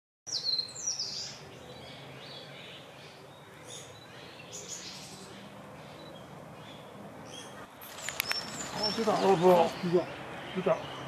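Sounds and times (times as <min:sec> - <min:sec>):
steady background hiss: 0:00.3 - 0:11.0.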